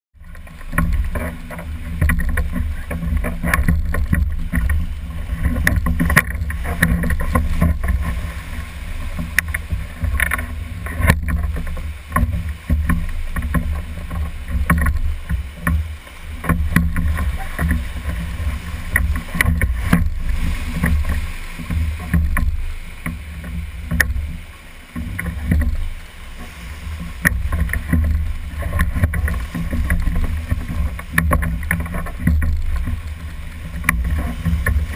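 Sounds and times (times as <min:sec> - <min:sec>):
whitewater rapid rushing: 0:00.2 - 0:34.9
short knocks and clicks: 0:00.3 - 0:08.2, 0:09.2 - 0:24.4, 0:25.0 - 0:34.9.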